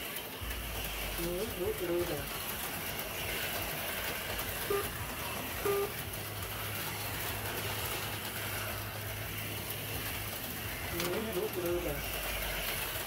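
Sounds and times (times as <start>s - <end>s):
slot cars whirring: 0.0s - 13.0s.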